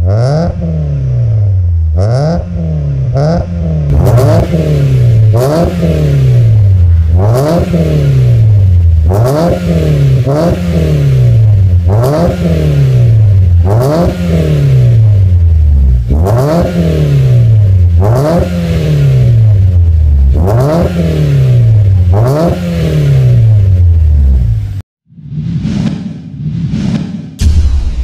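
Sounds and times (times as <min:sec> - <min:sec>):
car engine revving: 0:00.0 - 0:24.8.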